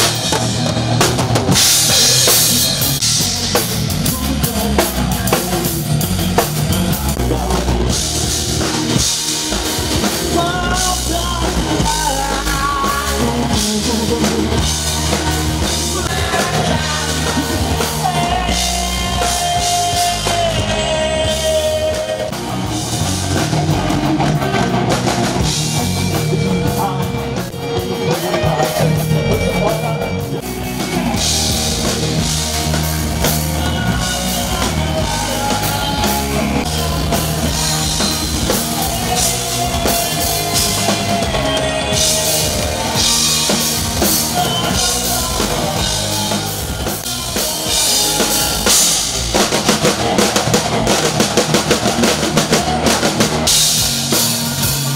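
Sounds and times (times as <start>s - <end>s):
drum kit beat: 0.0s - 54.9s
electric bass: 0.0s - 54.9s
electric guitar: 0.0s - 54.9s.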